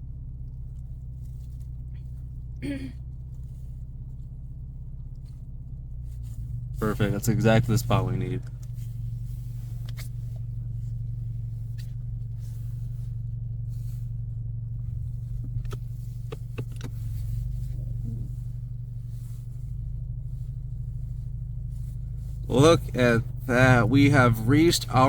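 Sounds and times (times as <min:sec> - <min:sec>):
car engine low hum: 0:00.0 - 0:25.0.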